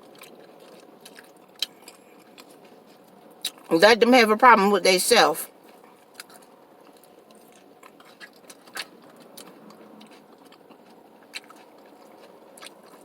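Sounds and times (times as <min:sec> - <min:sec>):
person chewing crisp chips: 0:00.0 - 0:03.7, 0:05.7 - 0:13.0.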